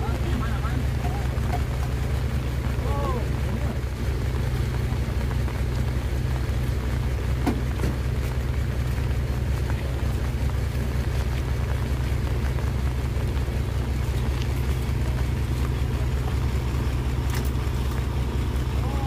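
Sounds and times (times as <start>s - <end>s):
truck diesel engine rumbling: 0.0s - 19.0s.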